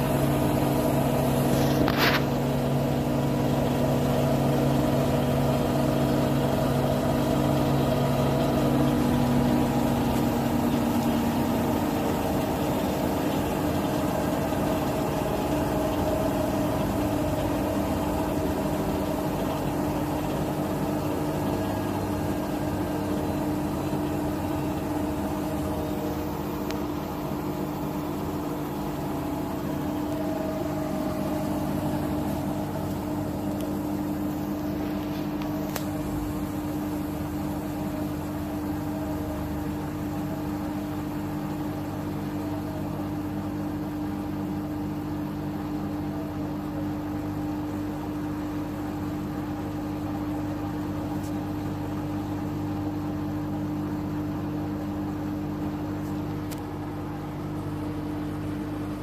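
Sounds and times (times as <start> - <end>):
washing machine drum spinning: 0.0 - 59.0.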